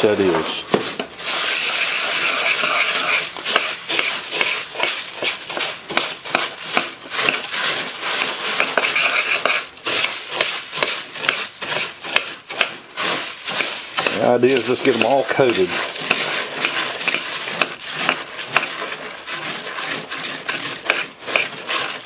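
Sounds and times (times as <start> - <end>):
cornflakes rustling and crackling: 0.1 - 22.0
spoon scraping metal pot: 0.1 - 22.0.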